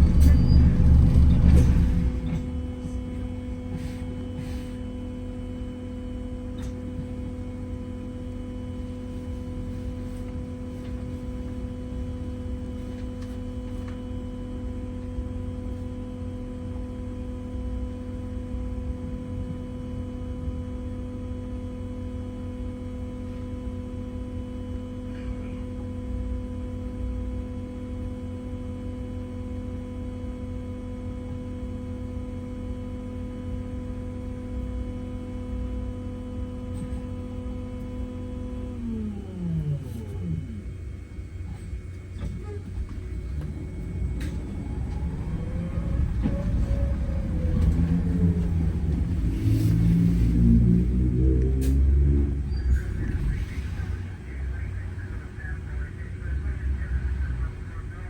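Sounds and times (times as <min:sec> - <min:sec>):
electrical hum inside bus: 0:00.0 - 0:58.0.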